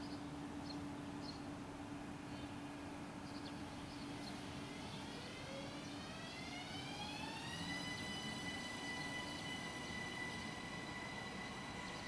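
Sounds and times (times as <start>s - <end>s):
faint steady hum: 0.0s - 12.0s
train electric whine: 0.0s - 12.0s.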